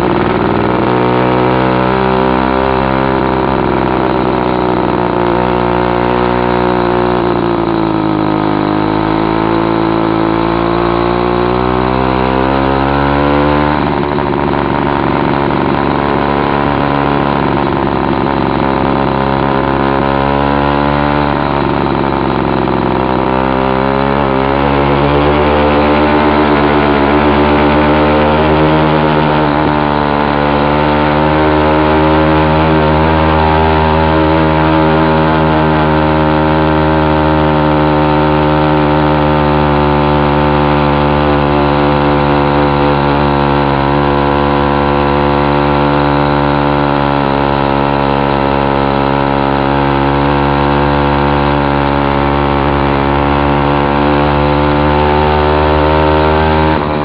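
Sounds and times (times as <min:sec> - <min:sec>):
two-stroke engine running loud: 0:00.0 - 0:57.0.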